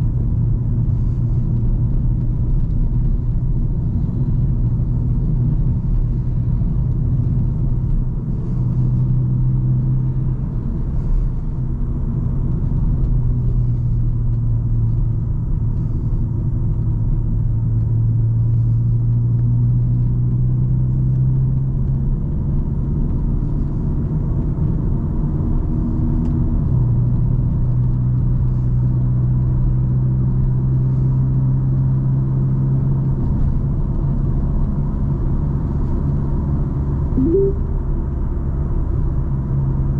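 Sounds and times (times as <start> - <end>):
tyre road rumble: 0.0 - 36.8.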